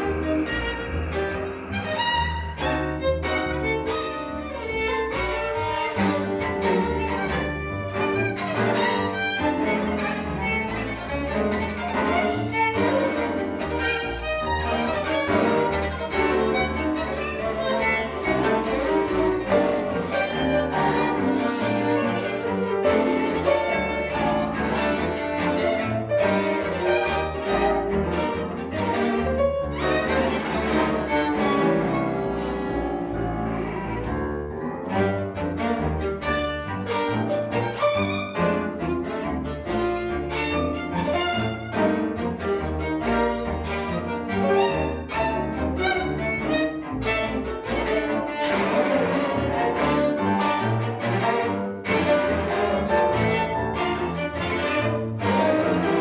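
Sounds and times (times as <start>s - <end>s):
violin and cello chamber music: 0.0s - 56.0s.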